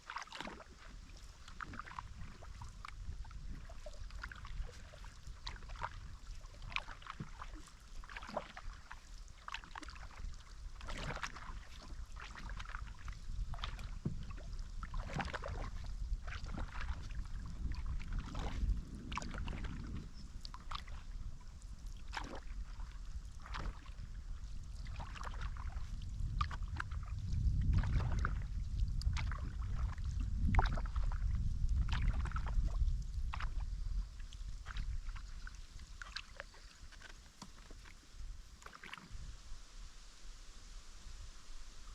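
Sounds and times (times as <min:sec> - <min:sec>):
paddle splashing in water: 0:00.0 - 0:41.9
wind on microphone: 0:00.4 - 0:41.9.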